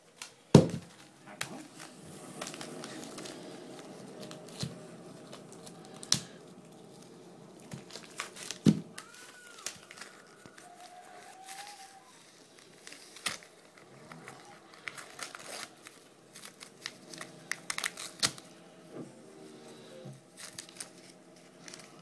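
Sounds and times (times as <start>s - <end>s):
wrapping paper crinkling and tearing: 0.0s - 18.8s, 20.3s - 22.0s.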